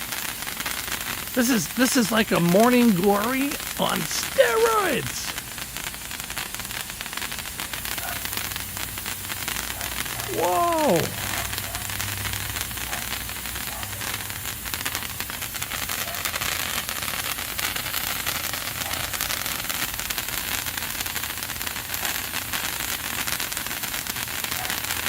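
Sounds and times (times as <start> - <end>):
fireworks crackling hiss: 0.0 - 25.0.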